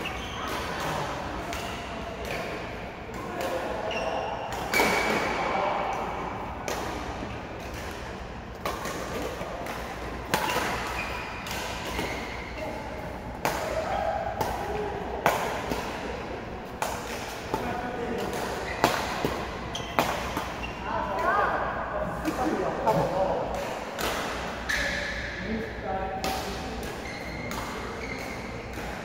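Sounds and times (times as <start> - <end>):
rackets hitting shuttlecock: 0.0 - 21.3, 22.2 - 25.3, 26.2 - 29.0.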